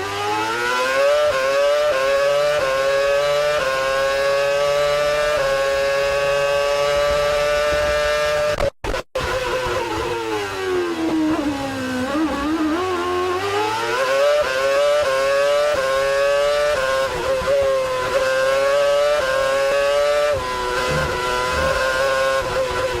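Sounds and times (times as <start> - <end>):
racing car engine shifting gears: 0.0 - 23.0.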